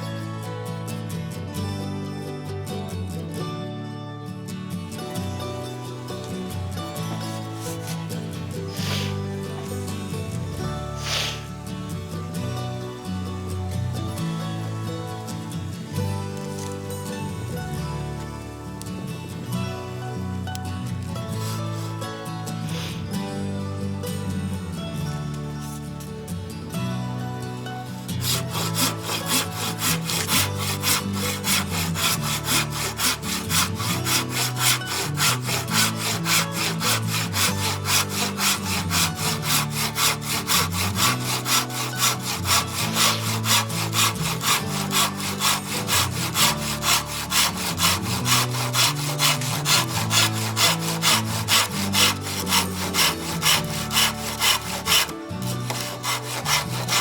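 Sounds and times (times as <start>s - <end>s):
background music: 0.0s - 57.0s
hand saw cutting branch: 5.2s - 57.0s.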